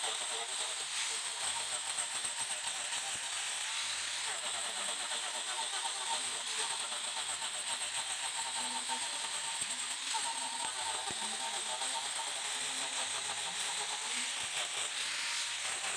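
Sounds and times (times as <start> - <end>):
angle grinder grinding wood: 0.0 - 15.9.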